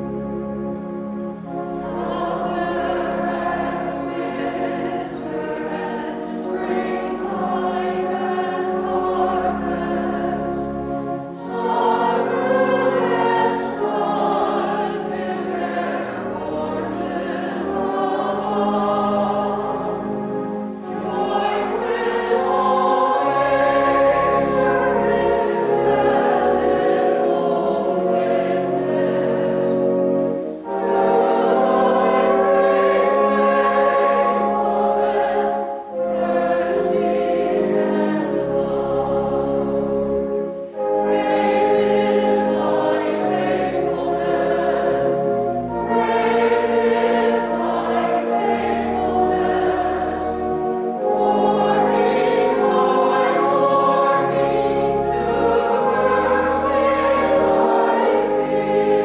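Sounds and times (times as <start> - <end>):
women's choir singing: 1.2 - 59.0.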